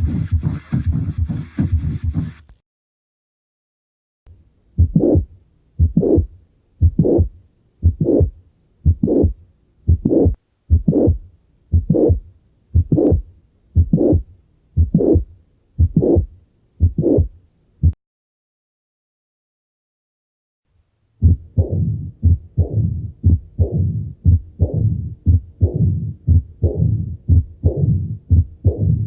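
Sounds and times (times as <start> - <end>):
heartbeat with murmur: 0.0 - 2.4, 4.8 - 18.0, 21.2 - 29.0.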